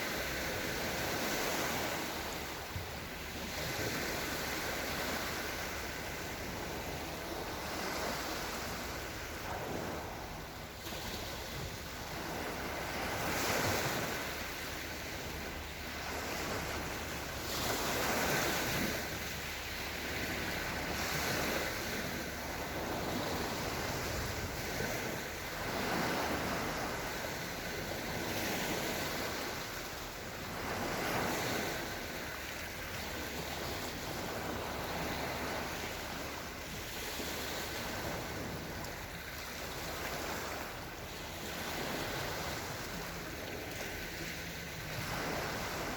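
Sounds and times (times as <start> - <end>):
small waves washing onto shore: 0.0 - 45.9.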